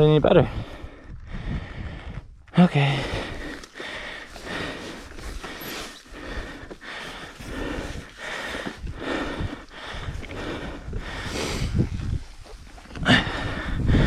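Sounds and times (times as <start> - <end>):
person panting: 0.5 - 2.3, 2.9 - 12.2, 13.0 - 14.0.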